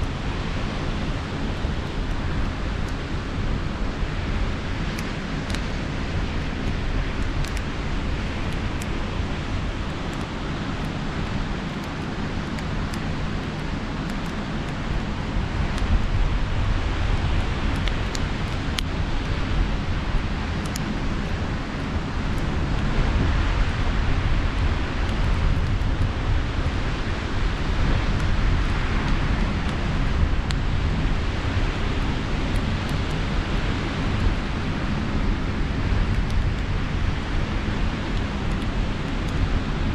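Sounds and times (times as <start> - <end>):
campfire crackling and popping: 0.0 - 23.0, 23.6 - 39.9
ocean surf: 0.0 - 39.9.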